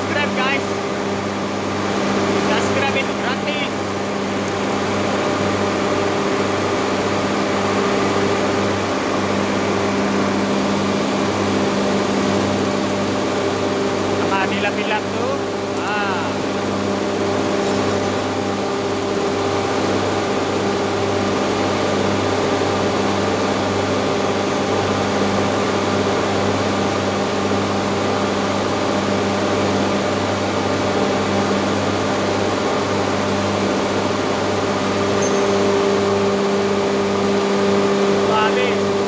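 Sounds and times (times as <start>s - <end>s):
industrial machinery humming: 0.0s - 39.0s.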